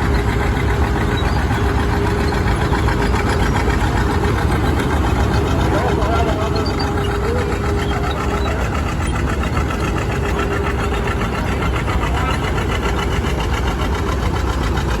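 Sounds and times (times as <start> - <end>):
construction machine engine running: 0.0 - 15.0.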